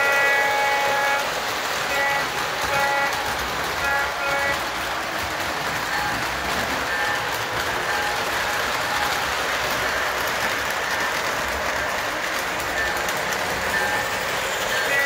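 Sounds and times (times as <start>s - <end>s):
model train cars rolling: 0.0s - 15.0s.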